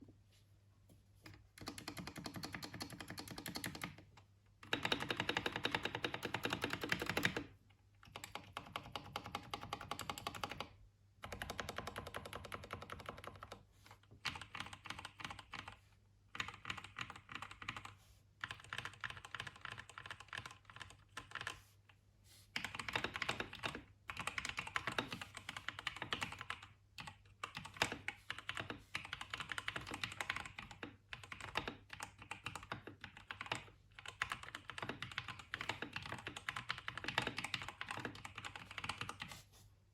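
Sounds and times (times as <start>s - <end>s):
mechanical keyboard typing: 1.2s - 21.6s, 22.6s - 39.3s.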